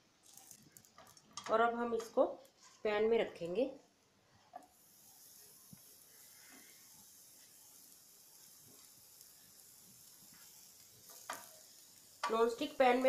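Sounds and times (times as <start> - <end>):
eggplant sizzling in a frying pan: 0.2 - 2.6, 4.4 - 13.0.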